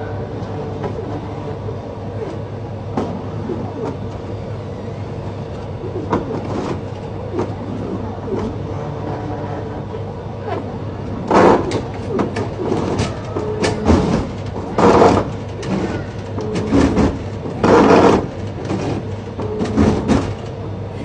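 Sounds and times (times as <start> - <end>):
vending machine mechanism whirring: 0.0 - 21.0.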